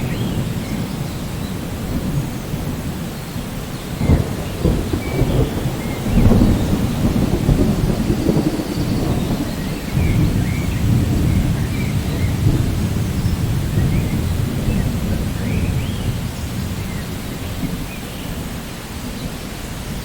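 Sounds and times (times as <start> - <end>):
thunder clap: 0.0 - 18.5
rain falling: 0.0 - 20.0
rolling thunder: 0.0 - 20.0.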